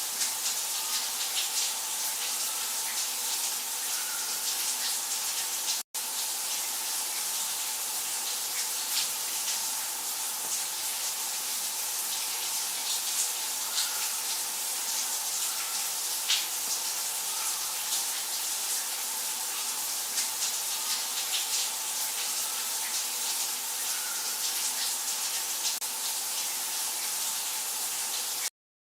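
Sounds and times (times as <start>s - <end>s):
water running from a tap: 0.0s - 28.5s.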